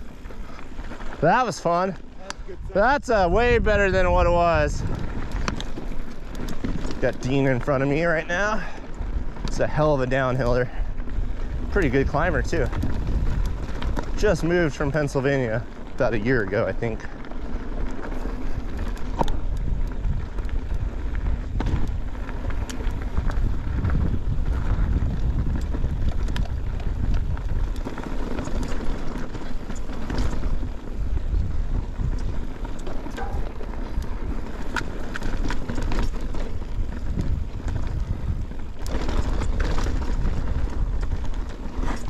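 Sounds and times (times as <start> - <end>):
bike rattling: 0.0 - 42.0
bike tyres rolling: 0.0 - 42.0
wind rumble on microphone: 0.0 - 42.0.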